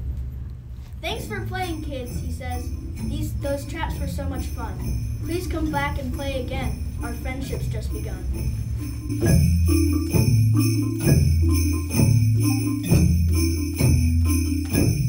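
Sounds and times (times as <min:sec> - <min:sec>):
jingle bells shaking: 0:01.1 - 0:15.0
low bass notes on barred instruments: 0:01.2 - 0:15.0.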